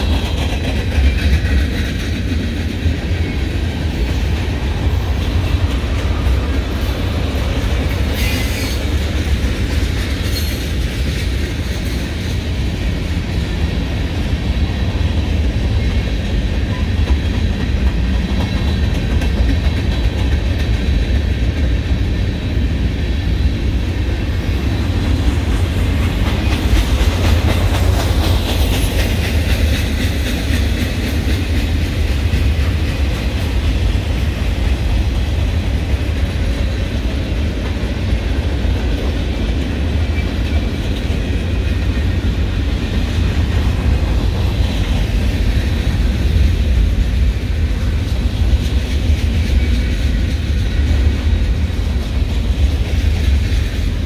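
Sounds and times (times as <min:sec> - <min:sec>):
low rumble of train: 0:00.0 - 0:54.0
train wheels clacking on rail joints: 0:00.0 - 0:54.0.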